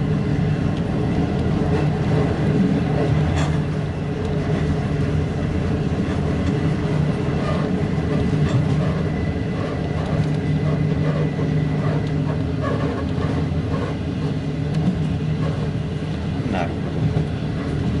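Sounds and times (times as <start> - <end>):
constant low hum: 0.0 - 18.0
train wheels rumbling on rails: 0.0 - 18.0.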